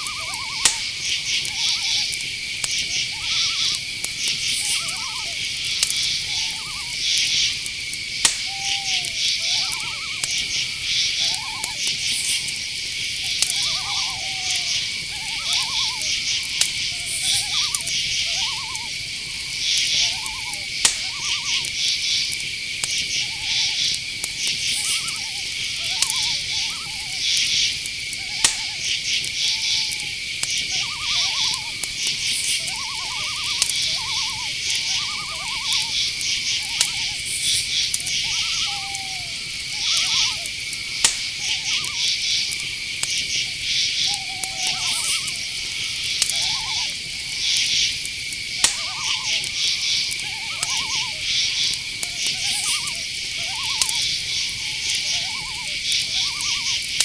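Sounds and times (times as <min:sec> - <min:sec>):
insect high trill: 0:00.0 - 0:57.0
sharp ticks: 0:00.0 - 0:57.0
short pitched calls: 0:00.0 - 0:57.0.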